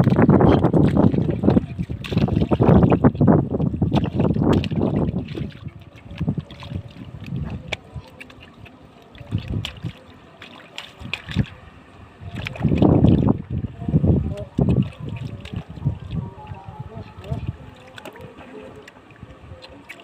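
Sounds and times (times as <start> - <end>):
water dripping: 0.0 - 11.6, 14.4 - 16.6, 17.2 - 20.0
flood water sloshing and splashing: 0.0 - 20.0.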